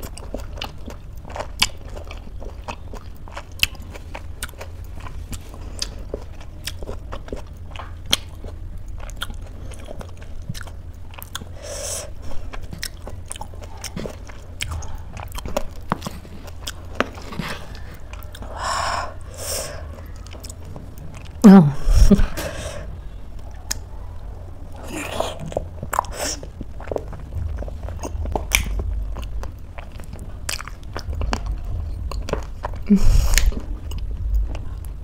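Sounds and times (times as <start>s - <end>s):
chewing with wet mouth clicks: 0.0s - 21.4s, 23.3s - 24.0s, 24.7s - 35.0s
low steady hum: 0.0s - 35.0s.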